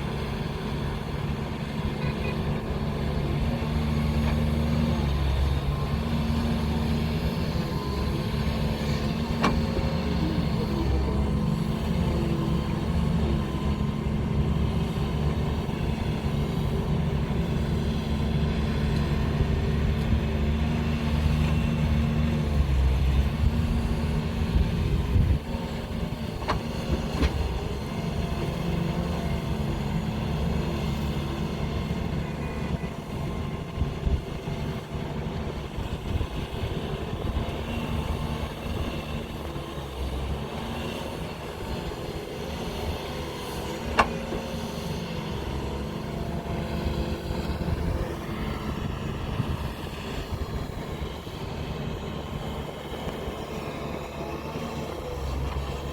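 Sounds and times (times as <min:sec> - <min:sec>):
backhoe diesel engine under load: 0:00.0 - 0:55.9.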